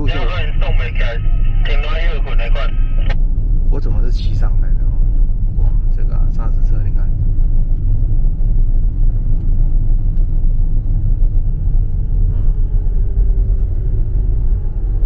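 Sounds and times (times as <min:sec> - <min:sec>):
engine and tyre rumble in car cabin: 0:00.0 - 0:15.0.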